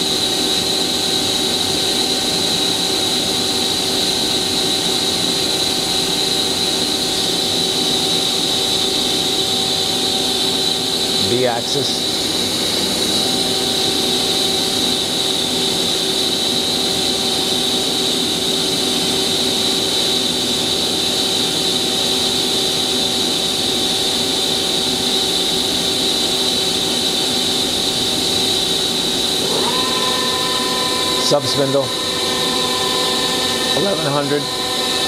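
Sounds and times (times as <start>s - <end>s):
machine hum with high whine: 0.0s - 35.0s.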